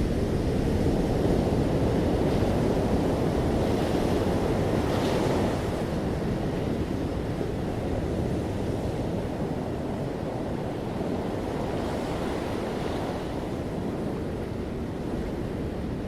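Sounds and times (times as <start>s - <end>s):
ocean waves breaking gently: 1.2s - 16.0s.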